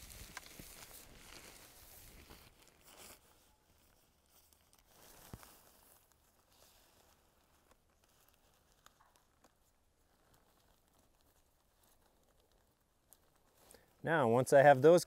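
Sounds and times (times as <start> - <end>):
nylon fabric rustling: 0.0 - 13.9.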